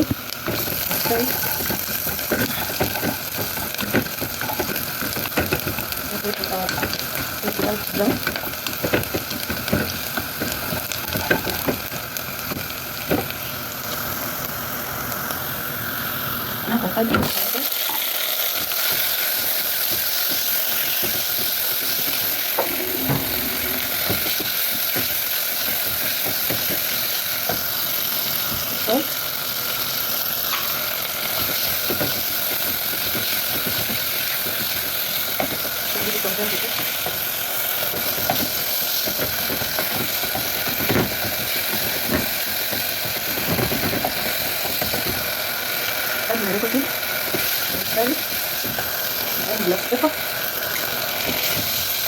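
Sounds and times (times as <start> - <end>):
food sizzling in oil: 0.0 - 52.0.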